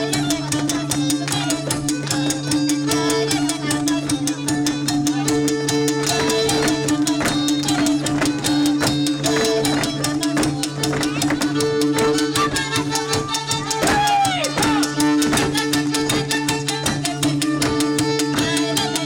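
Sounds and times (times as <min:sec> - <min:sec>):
fiddle-led folk dance music: 0:00.0 - 0:19.0.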